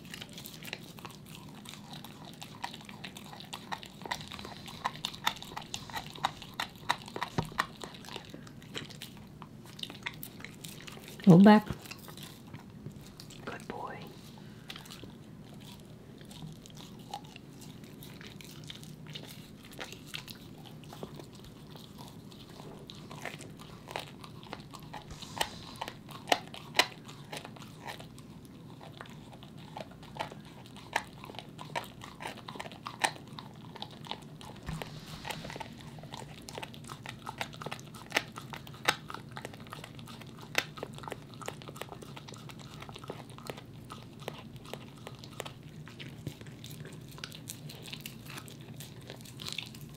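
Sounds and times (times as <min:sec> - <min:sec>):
dog teeth crunching bone: 0:00.0 - 0:13.5, 0:14.6 - 0:49.9.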